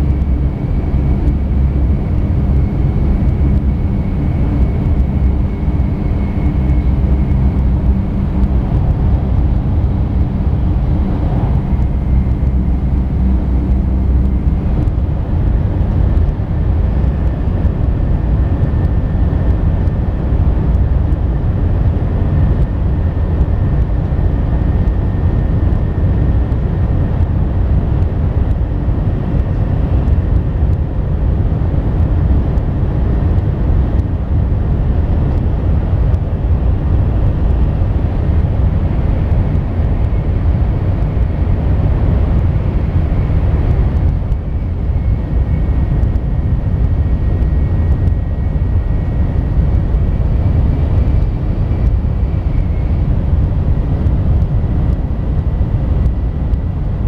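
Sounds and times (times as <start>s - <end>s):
faint high whine: 0.0s - 57.0s
train cabin low rumble: 0.0s - 57.0s.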